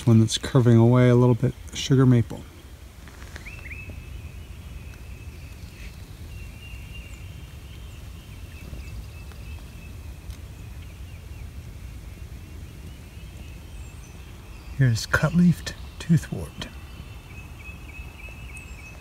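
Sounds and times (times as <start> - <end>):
songbird chirps: 0.0 - 19.0.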